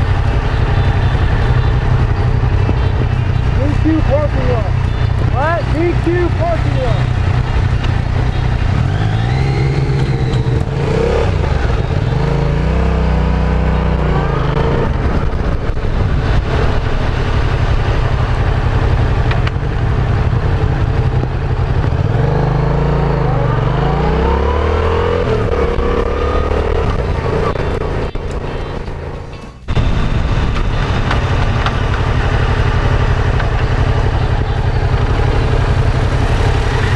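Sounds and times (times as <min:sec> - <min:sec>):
motorcycle engine accelerating: 0:00.0 - 0:36.9
rushing riding noise: 0:00.0 - 0:36.9.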